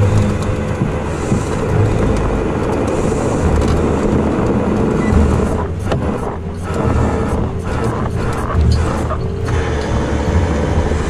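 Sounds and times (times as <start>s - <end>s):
truck engine humming: 0.0s - 11.0s
wind noise: 0.0s - 11.0s.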